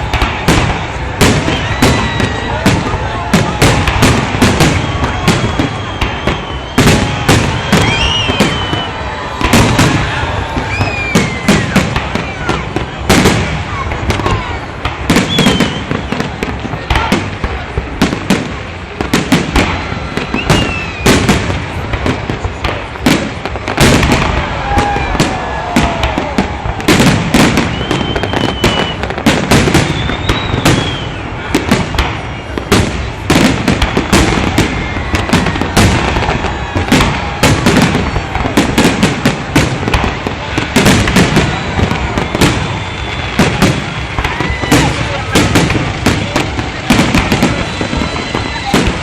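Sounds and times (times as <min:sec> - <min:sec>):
fireworks bangs: 0:00.0 - 0:49.0.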